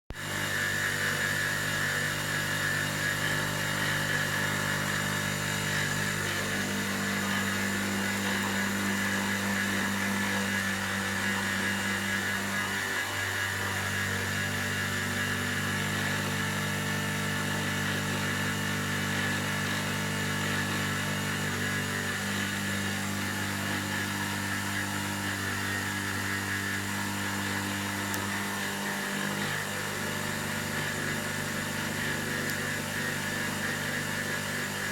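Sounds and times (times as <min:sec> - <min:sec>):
low motor tones: 0:00.1 - 0:34.9
milling machine cutting metal: 0:00.1 - 0:34.9.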